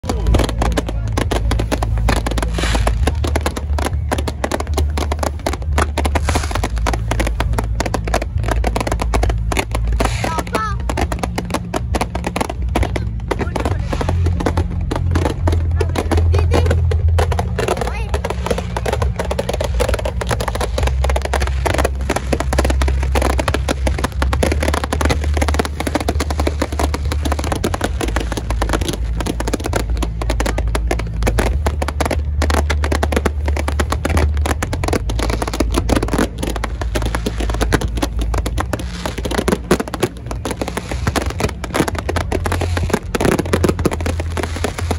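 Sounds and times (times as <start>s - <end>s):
fireworks bangs and crackles: 0.0s - 44.9s
music with deep bass: 0.0s - 44.9s.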